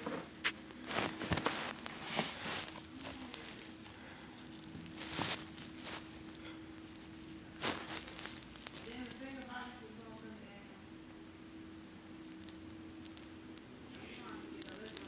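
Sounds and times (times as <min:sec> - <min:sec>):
rubber toys rustling on carpet: 0:00.0 - 0:10.6, 0:12.1 - 0:15.0
faint steady hum: 0:00.0 - 0:15.0.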